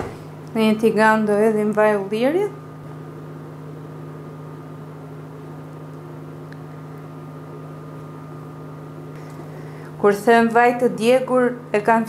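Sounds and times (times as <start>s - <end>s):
induction cooktop humming: 0.0s - 12.0s.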